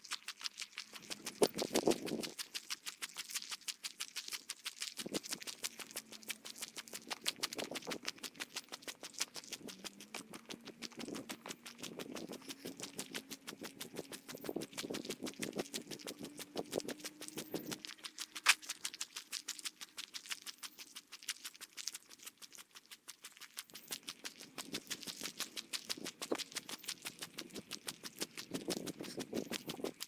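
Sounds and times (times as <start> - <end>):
sped-up footsteps on forest trail: 0.0 - 30.0.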